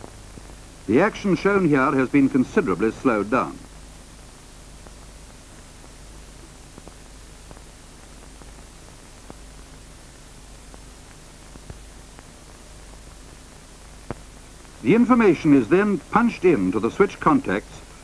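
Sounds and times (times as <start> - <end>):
film soundtrack hiss and hum: 0.0 - 18.0.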